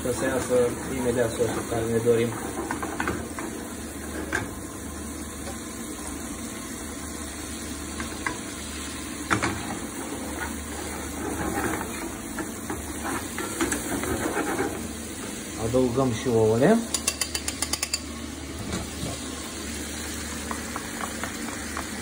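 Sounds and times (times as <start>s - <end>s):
food sizzling in frying pan: 0.0s - 22.0s.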